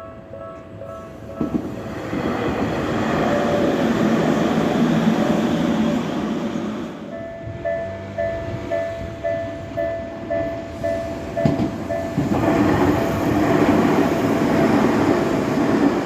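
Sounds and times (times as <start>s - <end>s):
train running over crossing: 0.0s - 16.0s.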